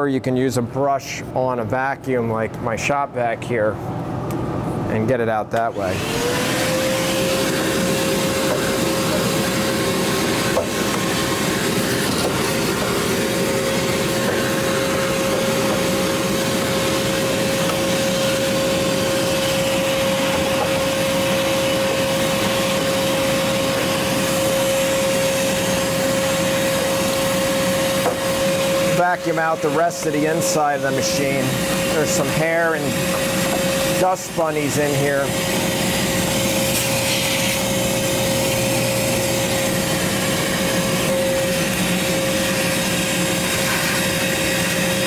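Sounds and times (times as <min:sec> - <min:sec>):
shop vac whining: 0:00.0 - 0:45.0.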